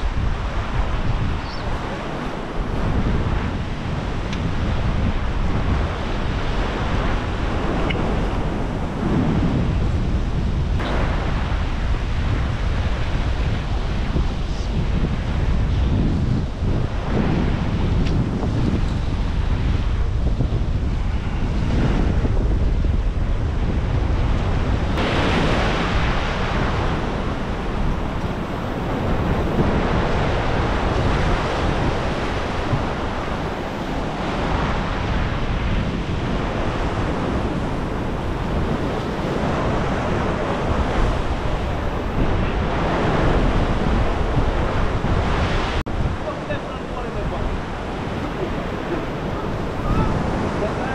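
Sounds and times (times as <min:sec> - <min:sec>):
rough surf churning: 0:00.0 - 0:50.9
wind buffeting microphone: 0:00.0 - 0:50.9.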